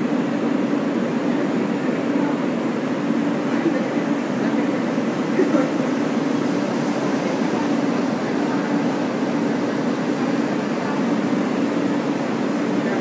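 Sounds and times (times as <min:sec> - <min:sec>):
subway car ventilation hum: 0:00.0 - 0:13.0.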